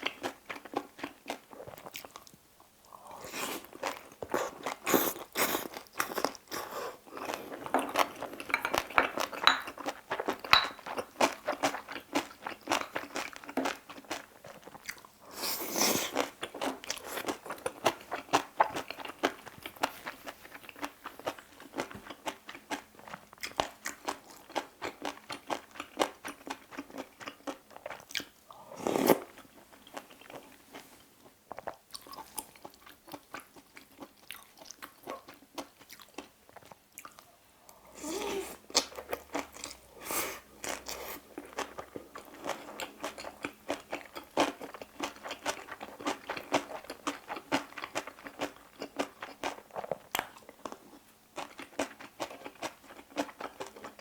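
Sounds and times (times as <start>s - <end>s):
close chewing and crunching: 0.0s - 37.4s, 38.0s - 54.0s.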